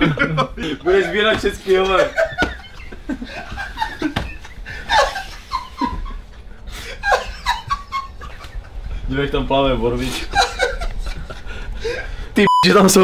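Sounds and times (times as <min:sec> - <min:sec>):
people laughing: 0:00.0 - 0:09.3, 0:10.0 - 0:12.2.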